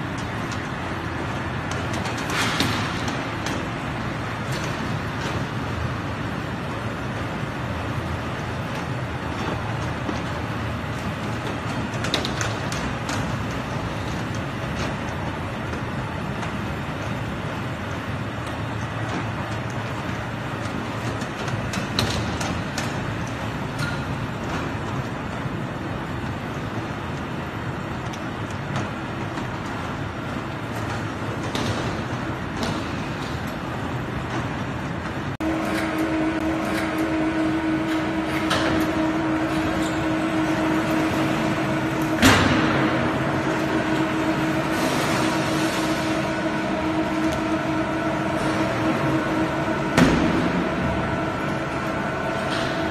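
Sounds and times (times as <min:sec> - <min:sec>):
production line machinery running: 0:00.0 - 0:52.9
steady machine hum: 0:00.0 - 0:52.9.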